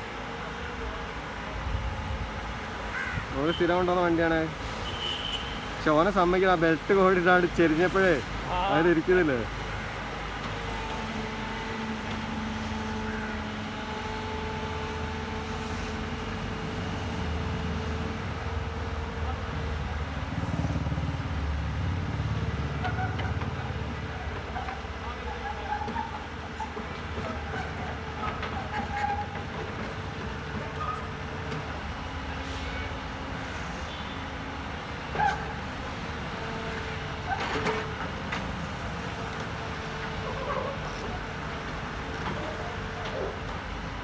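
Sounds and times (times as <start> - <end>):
excavator diesel engine rumble: 5.8 - 44.0.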